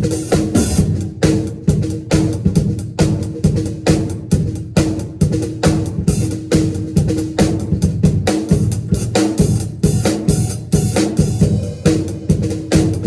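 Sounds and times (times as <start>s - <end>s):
drum kit steady beat: 0.0s - 13.0s.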